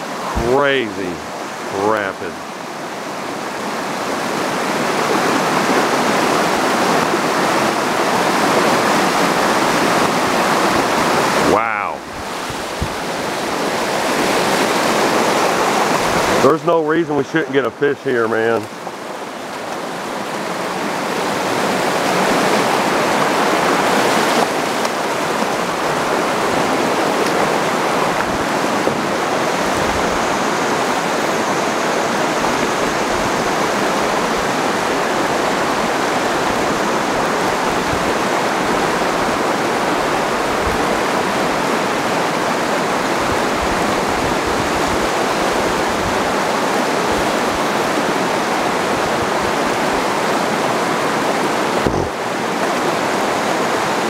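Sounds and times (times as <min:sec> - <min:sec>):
river rapid rushing over rocks: 0:00.0 - 0:54.0.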